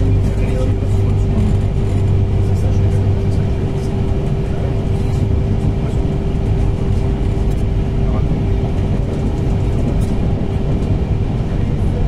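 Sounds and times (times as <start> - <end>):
constant train hum: 0.0 - 12.0
train wheels rumbling on track: 0.0 - 12.0.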